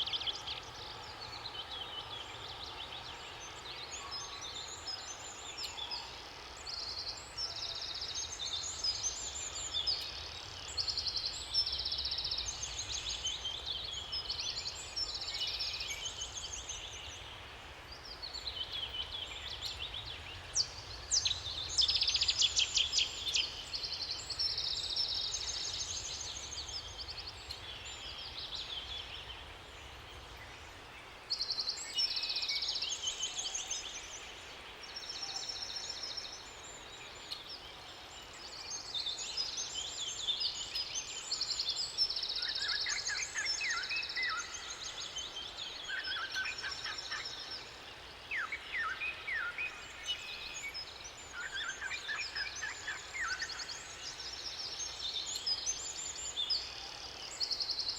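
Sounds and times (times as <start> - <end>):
lower bird song of quick notes: 0.0 - 57.9
songbirds singing trills: 0.0 - 57.9.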